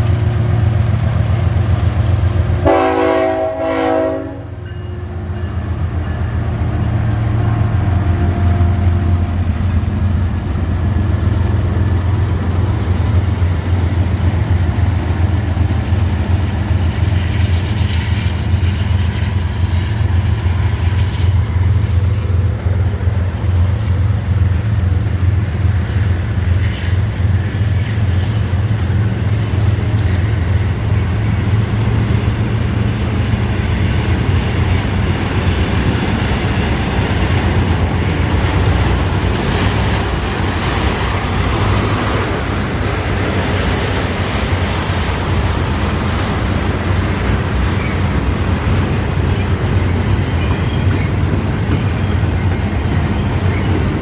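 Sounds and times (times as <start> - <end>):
diesel locomotive drone: 0.0 - 54.0
railcar wheels clattering on rails: 0.0 - 54.0.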